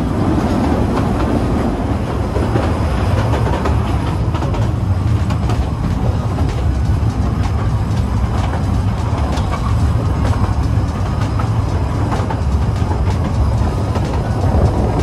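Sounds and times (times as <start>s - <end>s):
train wheels rumbling on rails: 0.0s - 15.0s
faint track clicking: 0.4s - 15.0s.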